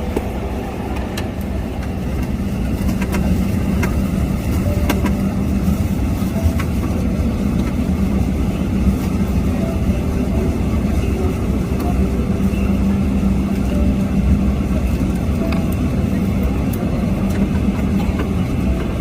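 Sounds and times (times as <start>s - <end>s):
airplane taxiing rumble: 0.0s - 19.0s.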